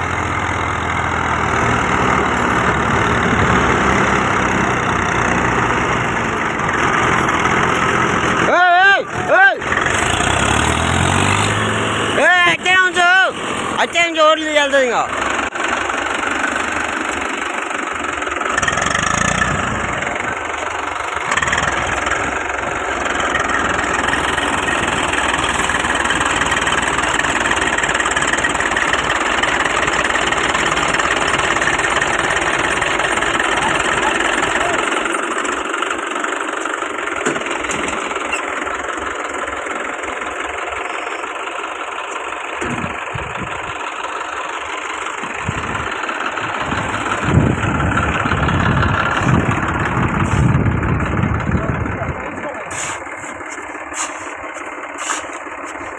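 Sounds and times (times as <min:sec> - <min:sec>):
diesel tractor engine running: 0:00.0 - 0:55.9.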